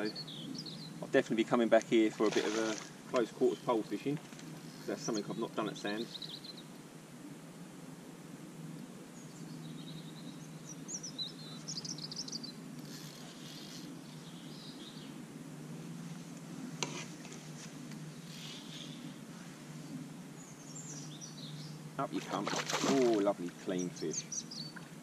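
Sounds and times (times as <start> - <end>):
small birds chirping: 0.0 - 6.9, 9.1 - 15.2, 17.4 - 25.0
steady low background noise: 0.0 - 25.0.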